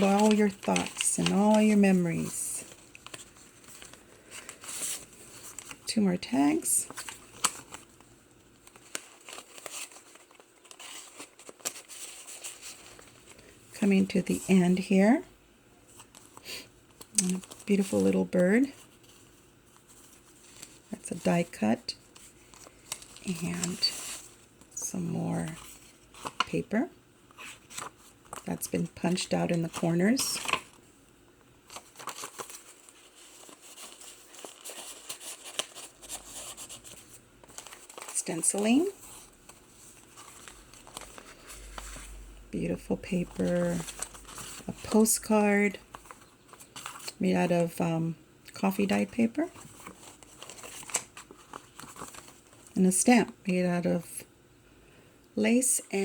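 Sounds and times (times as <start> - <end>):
paper pages rustling: 0.0 - 13.4, 15.9 - 24.8, 25.4 - 26.7, 27.3 - 30.9, 31.6 - 47.3, 48.8 - 52.8.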